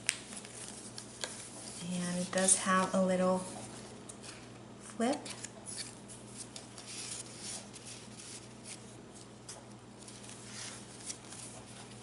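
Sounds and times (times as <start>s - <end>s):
faint steady hum: 0.0s - 12.0s
paper rustling and crinkling: 0.0s - 12.0s.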